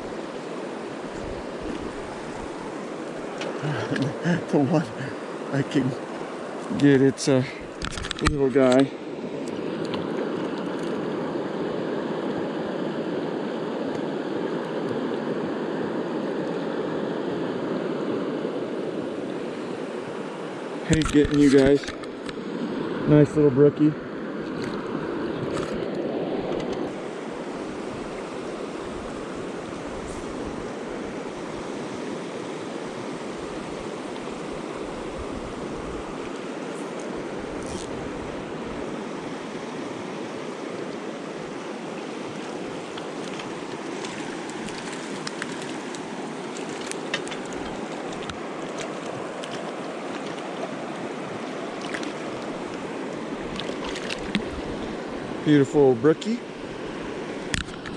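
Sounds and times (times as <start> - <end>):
river rushing: 0.0 - 57.9.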